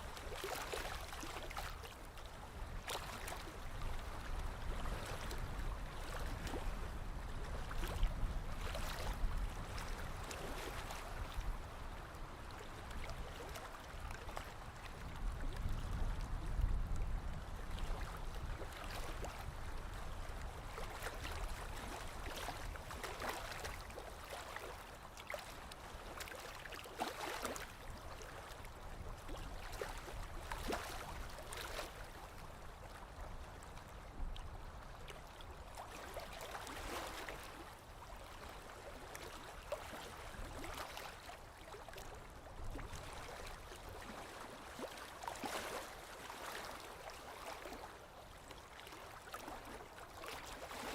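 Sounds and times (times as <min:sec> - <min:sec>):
lake waves lapping against shore: 0:00.0 - 0:50.9.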